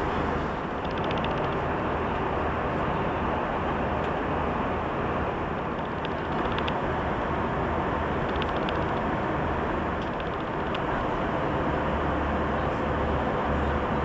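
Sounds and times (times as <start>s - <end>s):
airplane cabin engine rush: 0.0s - 14.0s.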